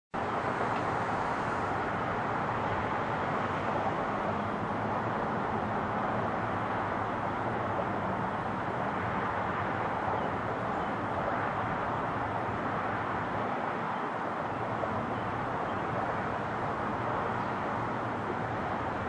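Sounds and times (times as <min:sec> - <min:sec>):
distant jet engines rumble and hiss: 0:00.2 - 0:19.0.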